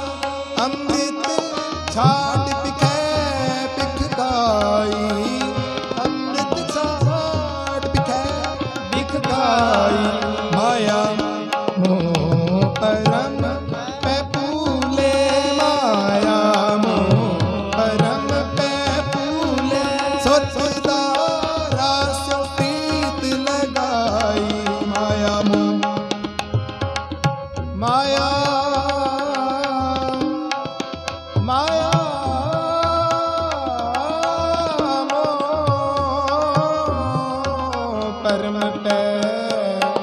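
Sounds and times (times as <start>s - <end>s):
harmonium: 0.0s - 40.0s
man singing: 0.0s - 40.0s
tabla rhythm: 0.0s - 40.0s.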